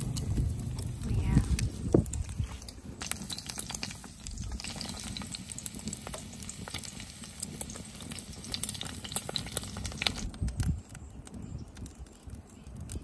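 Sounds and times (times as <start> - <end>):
fat sizzling and popping in skillet: 0.0 - 12.2.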